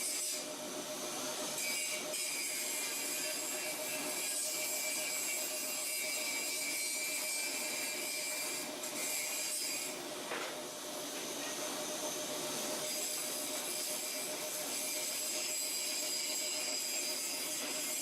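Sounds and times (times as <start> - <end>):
machine running with whine: 0.1 - 17.9.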